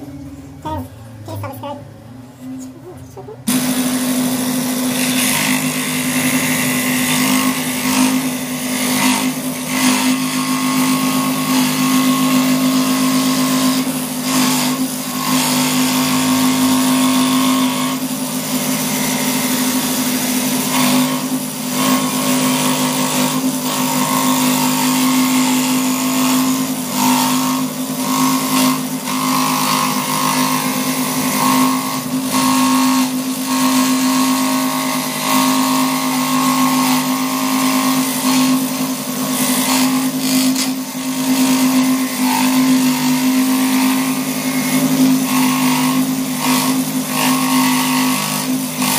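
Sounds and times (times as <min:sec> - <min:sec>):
scroll saw cutting wood: 0:03.4 - 0:48.9.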